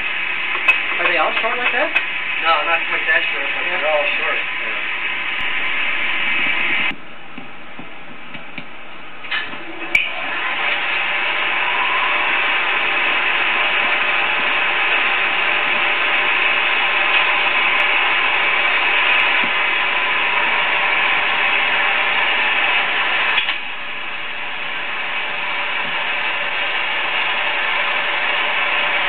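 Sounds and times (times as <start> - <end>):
film projector clattering: 0.0 - 5.6, 9.3 - 29.0.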